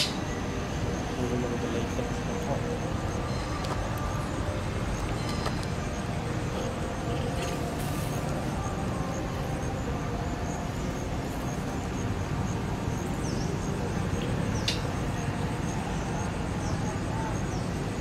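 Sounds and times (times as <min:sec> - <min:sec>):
steady outdoor background noise: 0:00.0 - 0:18.0.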